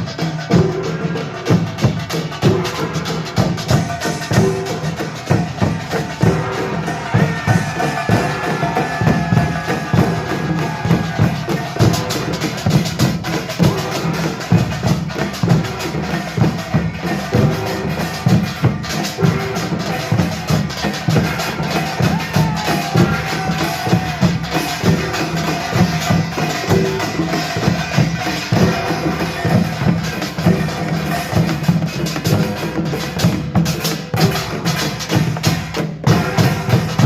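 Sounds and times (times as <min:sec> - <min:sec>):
drums and hand gongs: 0:00.0 - 0:37.0.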